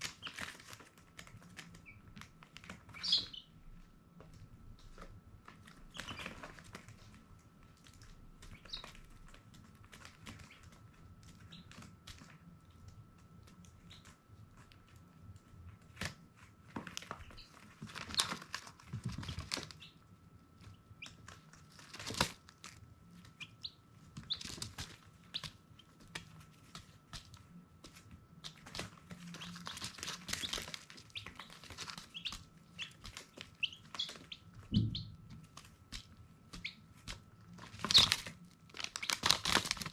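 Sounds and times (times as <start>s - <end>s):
chicks peeping: 0.0s - 3.8s, 4.8s - 7.2s, 7.8s - 15.0s, 15.9s - 22.4s, 23.2s - 39.9s.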